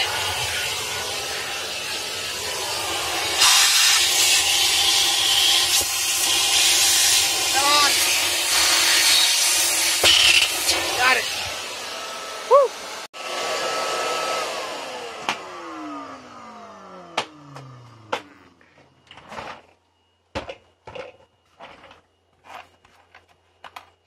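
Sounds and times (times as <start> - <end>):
shop vacuum running: 0.0 - 19.7.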